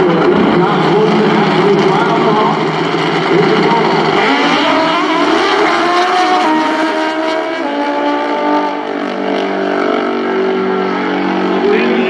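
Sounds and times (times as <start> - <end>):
racing motorcycles at full throttle: 0.0 - 12.0.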